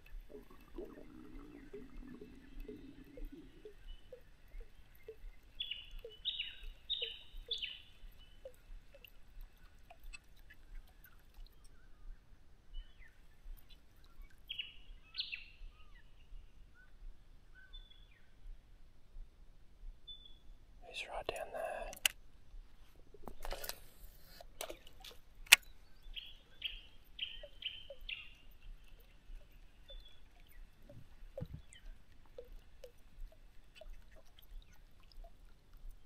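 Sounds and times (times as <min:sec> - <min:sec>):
faint bird chirps: 0:00.0 - 0:18.4, 0:20.0 - 0:21.9, 0:25.6 - 0:36.0.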